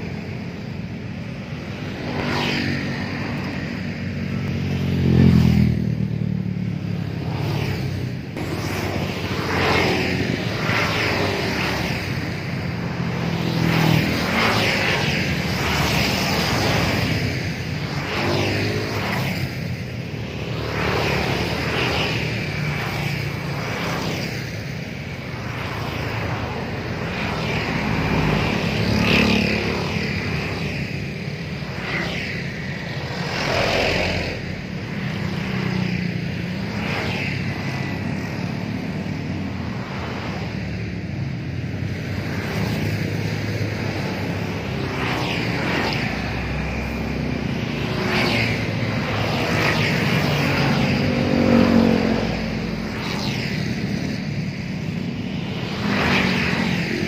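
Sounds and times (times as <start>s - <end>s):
car engines passing: 0.0s - 57.0s
motorbike engines passing: 0.0s - 57.0s
steady traffic hum: 0.0s - 57.0s.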